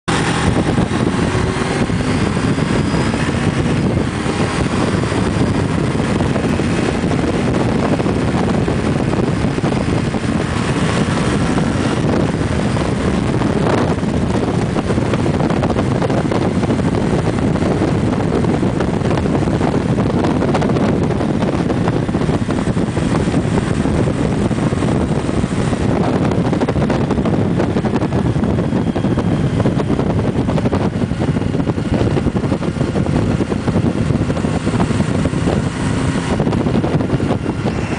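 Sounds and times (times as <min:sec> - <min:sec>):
motorcycle engine running: 0:00.0 - 0:37.9
wind buffeting microphone: 0:00.1 - 0:37.9.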